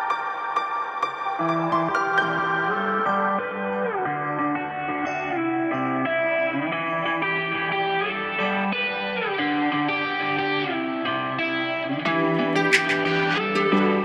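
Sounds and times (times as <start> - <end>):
guitar notes with bends: 0.0 - 14.0.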